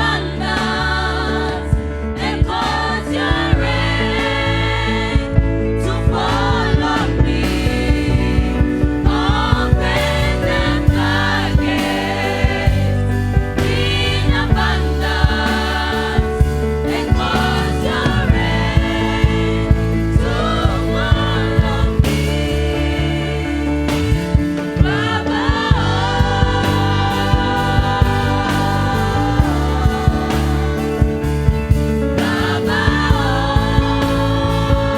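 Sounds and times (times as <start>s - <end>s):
band playing: 0.0s - 34.9s
choir singing gospel song: 0.0s - 34.9s
steady drum beat: 0.0s - 34.9s.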